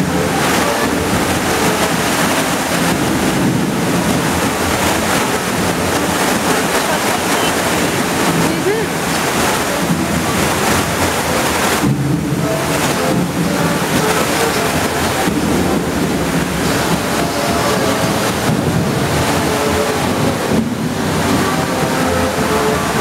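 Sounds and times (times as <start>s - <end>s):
rushing water around boat: 0.0s - 23.0s.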